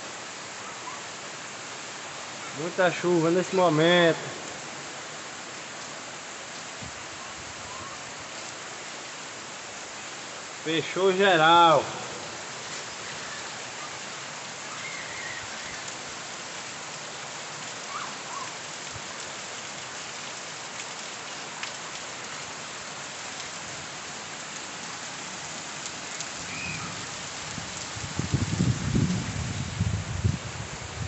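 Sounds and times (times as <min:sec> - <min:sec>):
heavy rain on roofs and paving: 0:00.0 - 0:31.0.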